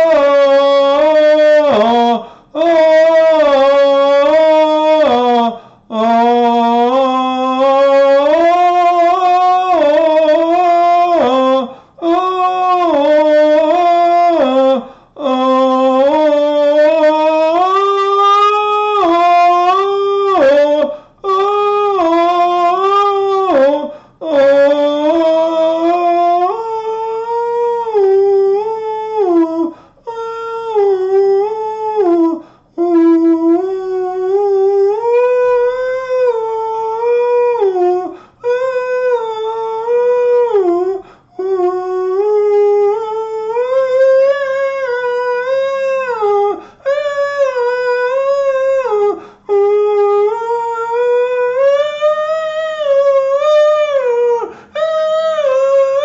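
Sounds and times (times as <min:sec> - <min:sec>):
man singing wordless vowels: 0:00.0 - 0:56.0.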